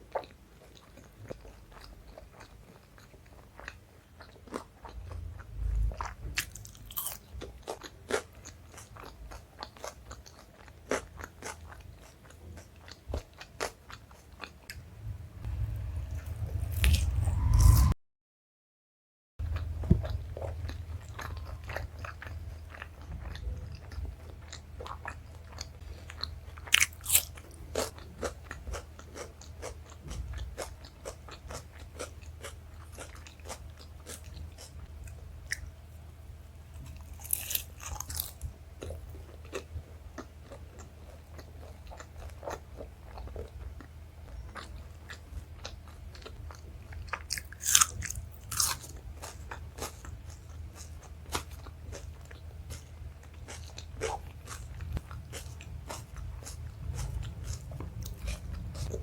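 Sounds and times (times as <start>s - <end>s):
close-miked chewing: 0.0s - 14.8s, 19.4s - 36.0s, 36.7s - 59.0s.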